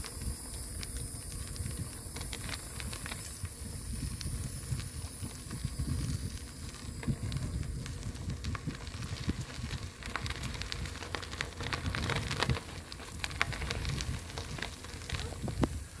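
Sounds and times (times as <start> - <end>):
bicycle tyres on sandy dirt: 0.0 - 16.0
crackling ticks: 0.0 - 16.0.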